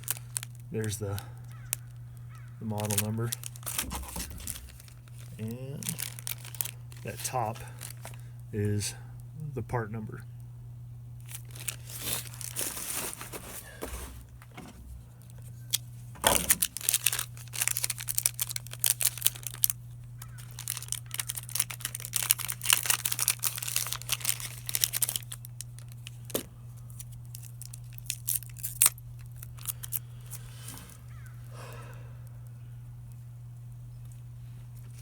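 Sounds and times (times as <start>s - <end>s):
plastic packaging crinkling: 0.0s - 8.4s, 11.2s - 31.3s
steady low hum: 0.0s - 35.0s.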